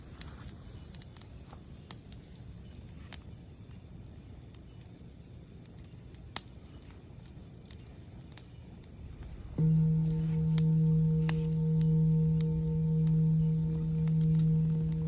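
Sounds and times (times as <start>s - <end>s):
campfire low rumble: 0.0s - 15.0s
fire crackling and popping: 0.0s - 15.0s.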